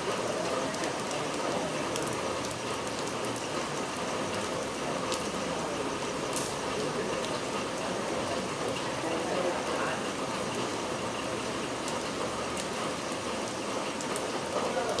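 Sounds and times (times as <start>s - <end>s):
sharp ticks of raindrops: 0.0s - 15.0s
steady rain: 0.0s - 15.0s.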